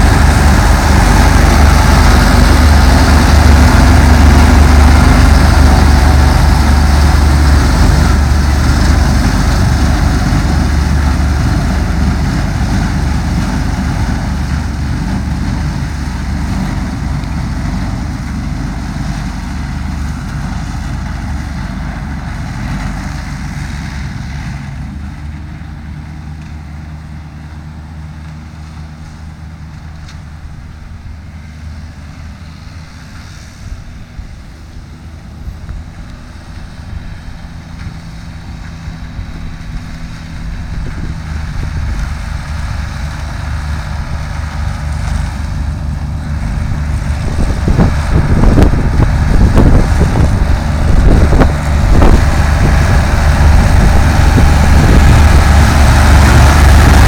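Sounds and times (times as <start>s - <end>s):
forage harvester cutting grass: 0.0s - 57.0s
tractor engine running: 0.0s - 57.0s.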